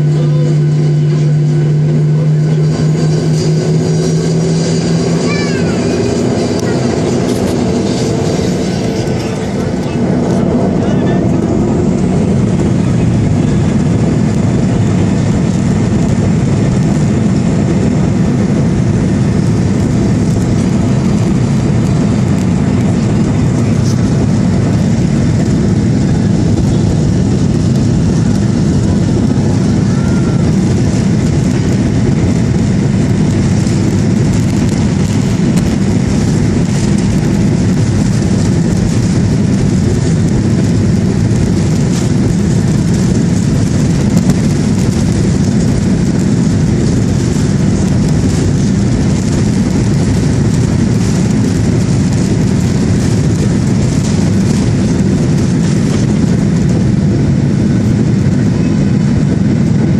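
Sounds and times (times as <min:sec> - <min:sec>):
jet engines rumbling: 0:00.0 - 0:59.9
wheels rolling on runway: 0:02.4 - 0:59.9.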